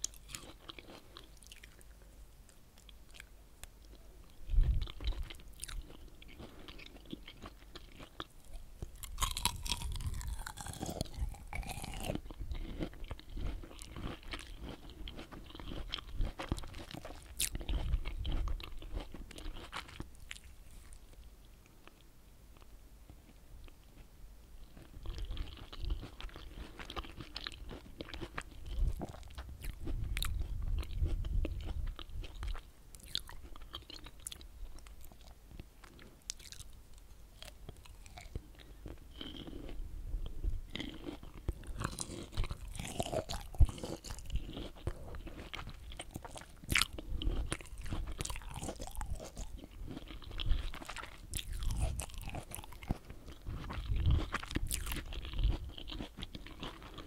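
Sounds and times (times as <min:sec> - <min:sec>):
fruit pulp chewing crunches: 0:00.0 - 0:21.2, 0:24.0 - 0:36.8, 0:37.4 - 0:57.0.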